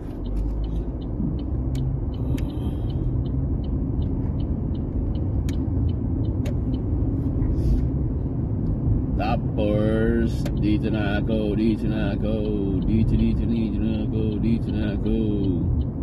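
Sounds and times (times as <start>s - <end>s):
car engine and tyre rumble: 0.0s - 16.0s
turn signal clicking: 0.0s - 16.0s.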